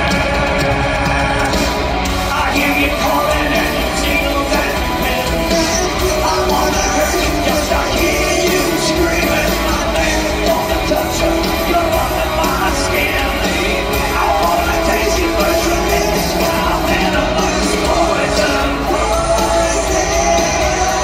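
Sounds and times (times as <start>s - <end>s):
bass guitar: 0.0s - 21.0s
distorted electric guitars: 0.0s - 21.0s
drums: 0.0s - 21.0s
person singing lead vocal: 0.0s - 21.0s.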